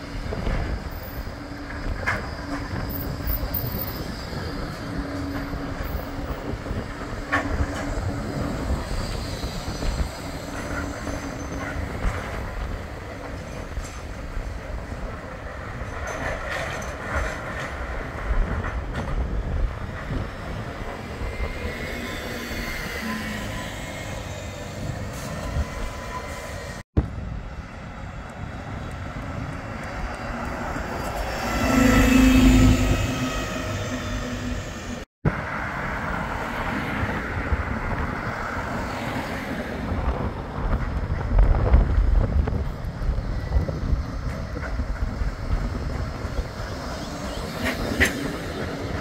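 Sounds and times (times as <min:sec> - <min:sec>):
road traffic: 0:00.0 - 0:49.0
tram running on street track: 0:00.0 - 0:49.0.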